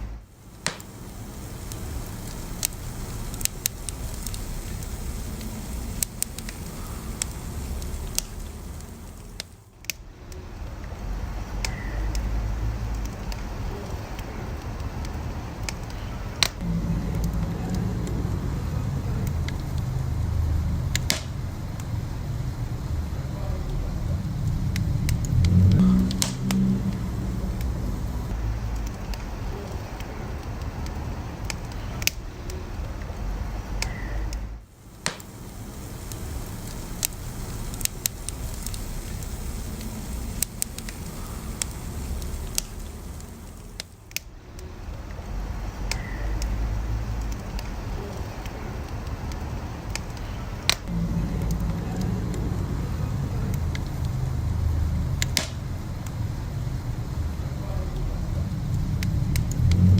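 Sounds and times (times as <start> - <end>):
burning logs popping and crackling: 0.0 - 59.9
fire rumbling: 0.0 - 59.9.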